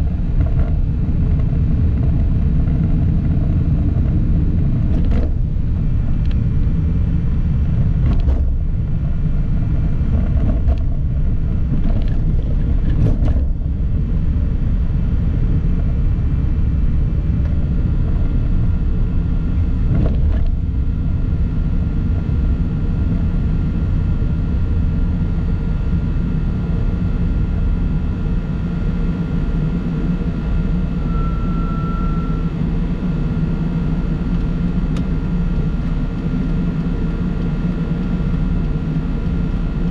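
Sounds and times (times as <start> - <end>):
faint steady whine: 0.0 - 39.9
vehicle driving rumble: 0.0 - 39.9.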